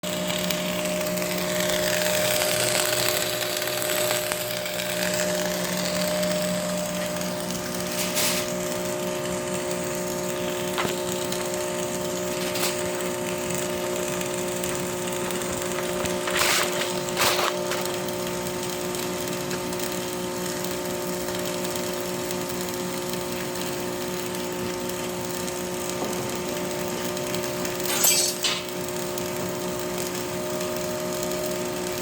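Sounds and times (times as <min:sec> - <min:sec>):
welding arc crackling: 0:00.0 - 0:32.0.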